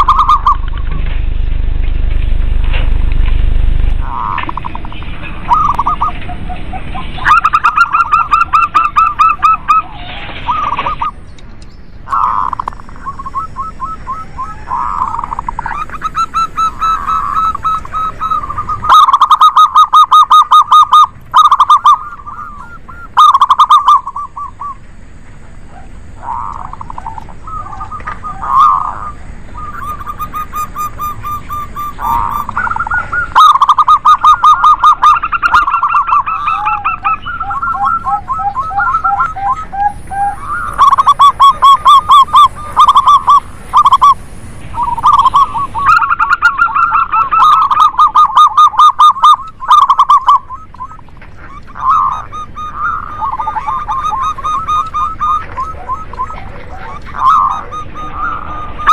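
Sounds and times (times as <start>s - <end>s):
doves cooing: 0.0s - 1.6s, 3.9s - 58.9s.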